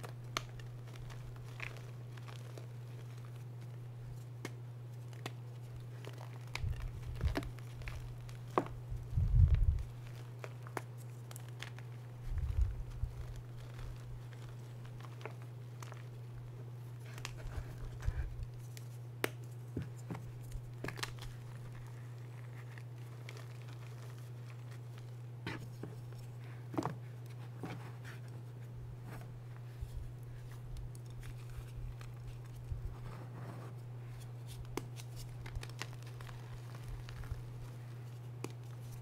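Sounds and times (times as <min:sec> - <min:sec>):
chalk crunching and cracking: 0:00.0 - 0:26.6, 0:28.1 - 0:39.0
steady low hum: 0:00.0 - 0:39.0.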